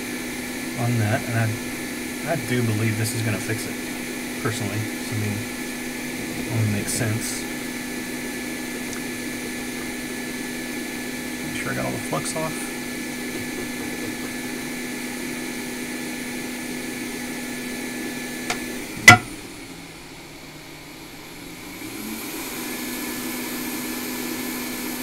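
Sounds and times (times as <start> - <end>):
air blower rushing: 0.0 - 20.0
constant hum: 0.0 - 22.2.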